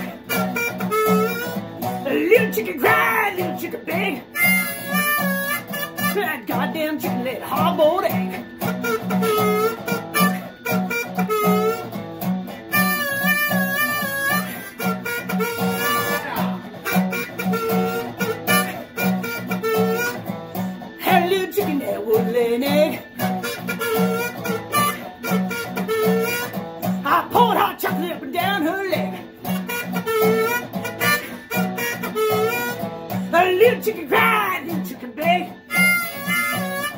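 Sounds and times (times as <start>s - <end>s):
harmonica playing blues melody: 0.0s - 36.9s
steady guitar rhythm: 0.0s - 36.9s.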